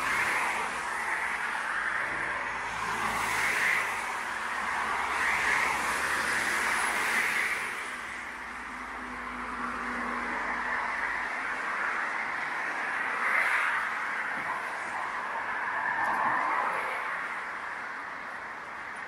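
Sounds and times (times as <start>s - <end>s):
cars passing tyre noise: 0.0s - 19.0s.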